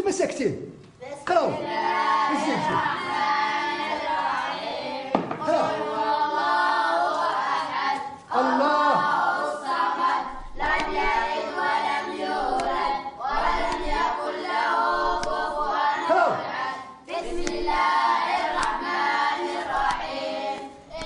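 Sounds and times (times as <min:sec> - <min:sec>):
boys chanting in unison: 0:01.3 - 0:21.0.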